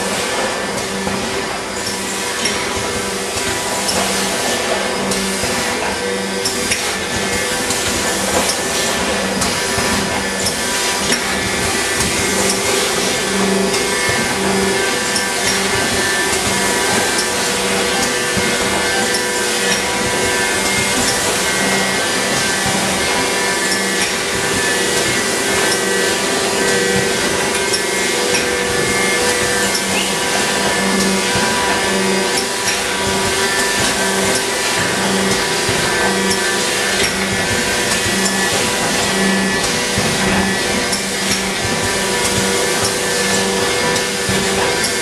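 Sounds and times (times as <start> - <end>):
machine motors whirring and humming: 0.0 - 45.0.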